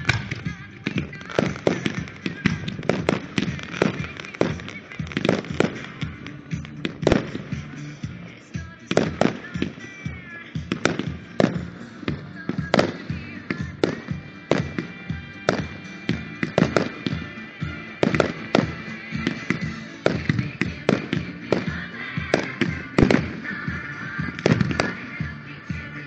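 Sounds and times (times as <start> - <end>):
firework shells bursting: 0.0 - 25.2
disco music: 0.0 - 26.0.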